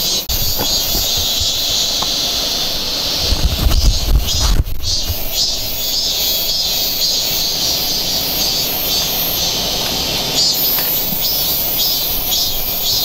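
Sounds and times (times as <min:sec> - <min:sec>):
high insect chorus: 0:00.0 - 0:13.0.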